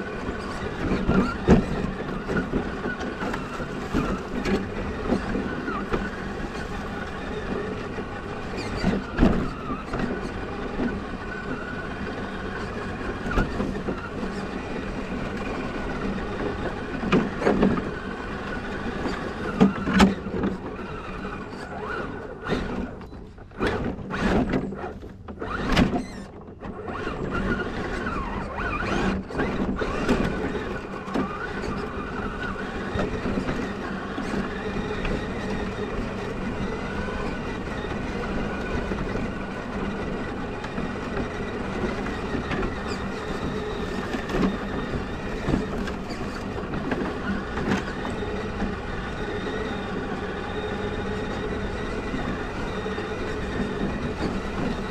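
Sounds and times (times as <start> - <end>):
toy truck motor whining: 0.0 - 54.9.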